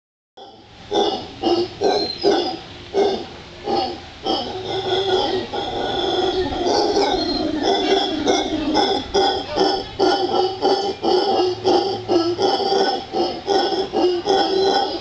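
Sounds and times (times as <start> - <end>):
howler monkeys calling: 0.4 - 15.0.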